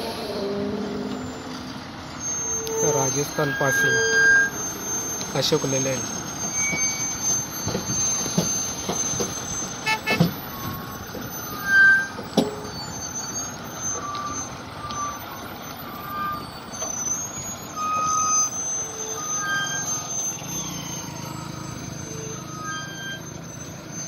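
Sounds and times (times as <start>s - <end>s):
truck engine and tyres rumbling: 0.0s - 24.0s
short high chirps or beeps: 0.8s - 24.0s.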